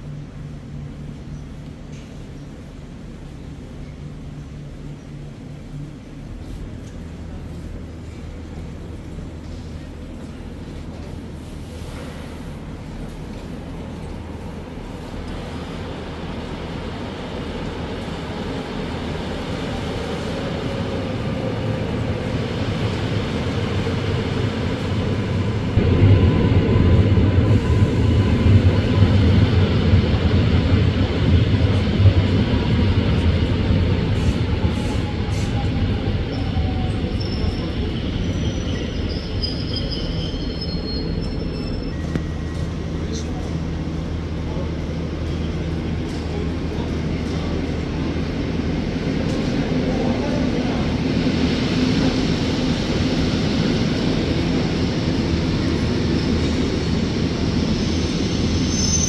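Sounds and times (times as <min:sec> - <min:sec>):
train rumbling on tracks: 0:00.0 - 0:59.0.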